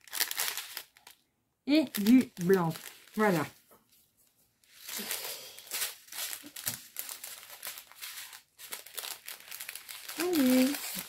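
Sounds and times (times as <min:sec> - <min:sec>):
plastic bags crinkling: 0:00.0 - 0:03.6, 0:04.6 - 0:11.0.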